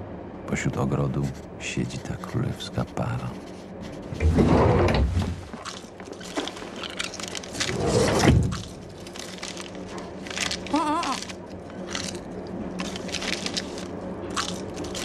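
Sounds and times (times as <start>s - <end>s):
train carriage running hum: 0.0s - 15.0s.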